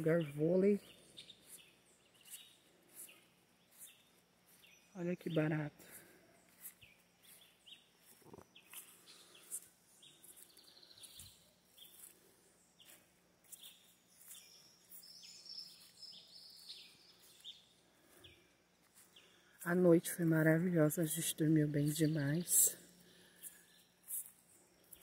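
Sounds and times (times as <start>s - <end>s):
faint wild birds chirping: 0.0s - 25.0s.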